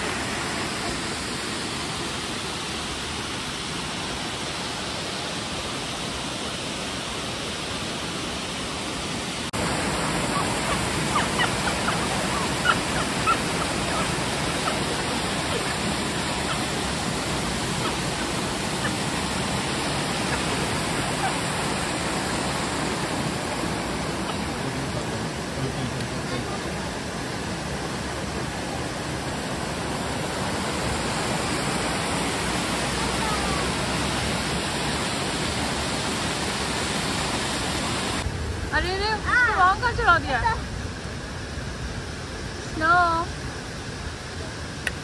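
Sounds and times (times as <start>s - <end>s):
waterfall and rapids rushing: 0.0s - 45.0s.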